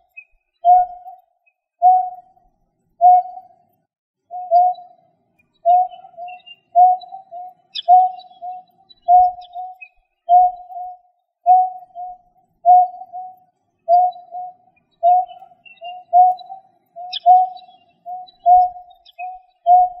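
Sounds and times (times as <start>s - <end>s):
recorded bird call: 0.0s - 2.4s, 3.0s - 20.0s.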